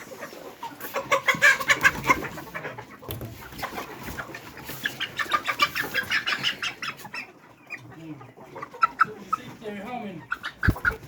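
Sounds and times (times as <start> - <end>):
young chickens clucking and chirping: 0.0 - 11.0.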